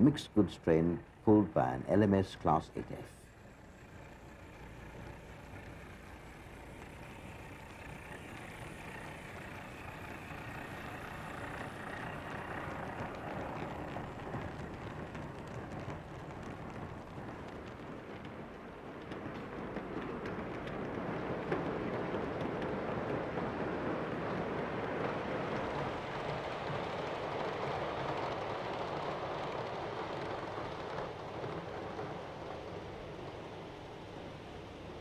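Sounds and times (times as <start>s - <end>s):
model train rumbling on track: 0.0s - 35.0s.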